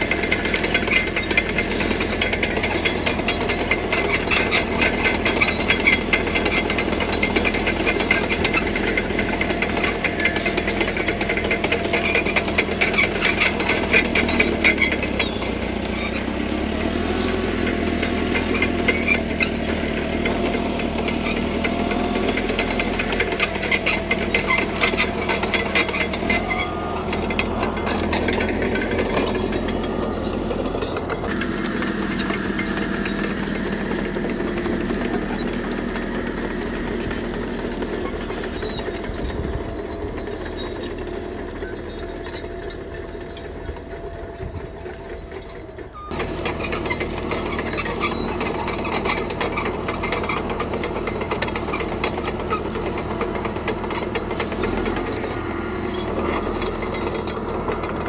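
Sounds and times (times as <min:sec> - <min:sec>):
diesel engine running: 0:00.0 - 0:58.0
steel tracks clanking and squealing: 0:00.0 - 0:58.0.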